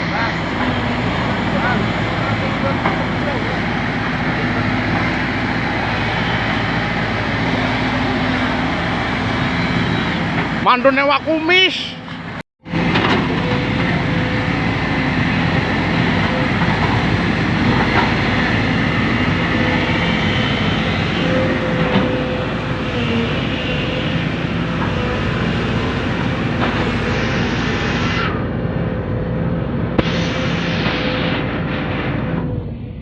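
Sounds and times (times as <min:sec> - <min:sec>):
excavator engine running: 0:00.0 - 0:33.0
hydraulic whine: 0:00.0 - 0:33.0.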